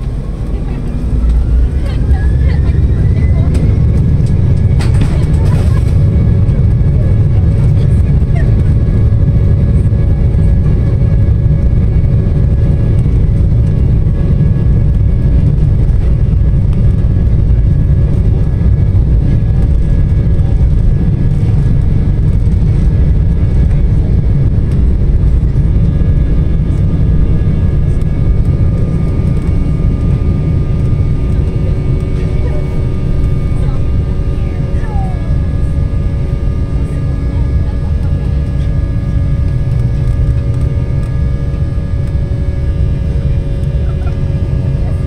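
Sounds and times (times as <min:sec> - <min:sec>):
jet engines low rumble: 0:00.0 - 0:45.0.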